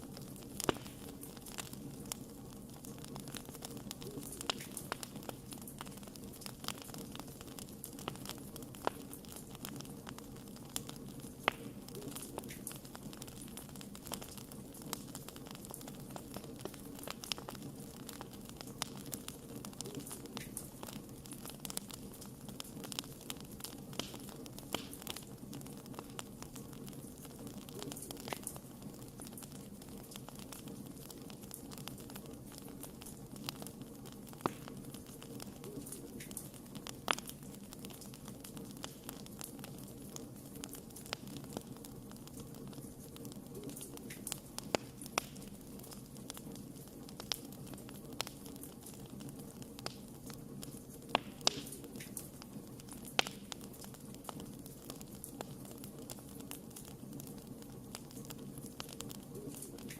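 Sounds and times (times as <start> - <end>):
burning wood crackling and popping: 0.0 - 59.9
low rushing of flames: 0.0 - 59.9.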